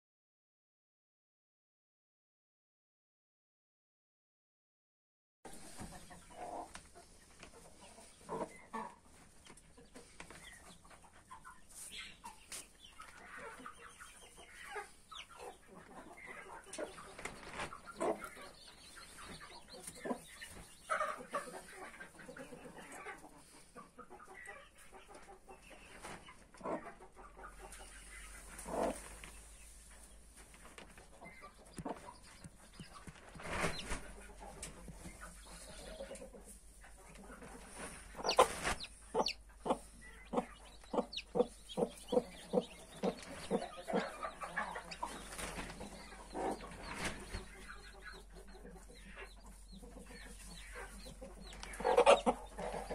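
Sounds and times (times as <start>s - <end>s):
chicks calling: 5.5s - 52.9s
hen clucking: 5.5s - 52.9s.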